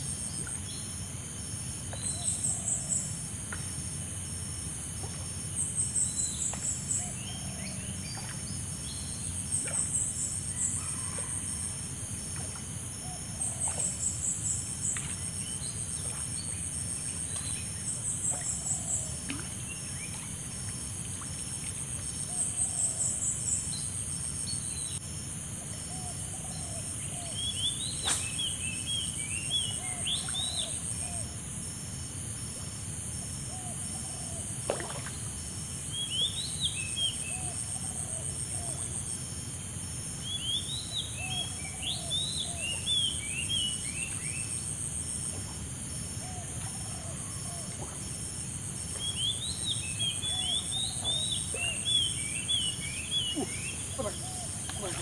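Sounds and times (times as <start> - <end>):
high insect hum: 0.0 - 55.0.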